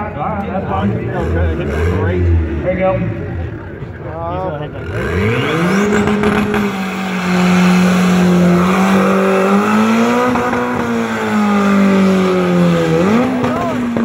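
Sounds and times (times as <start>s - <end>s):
car engine at high revs: 0.6s - 14.0s
spinning tyres screeching: 0.6s - 14.0s.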